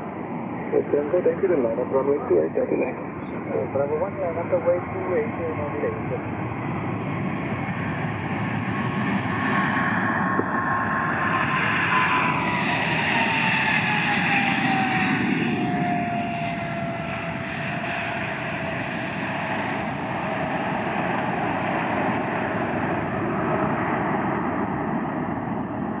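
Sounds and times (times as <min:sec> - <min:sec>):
jet airliner taking off: 0:00.0 - 0:26.0.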